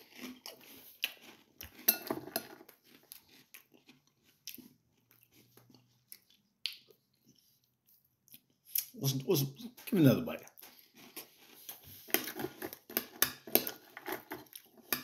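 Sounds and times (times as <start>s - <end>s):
cereal crunching while chewed: 0.0s - 9.0s, 10.5s - 15.0s.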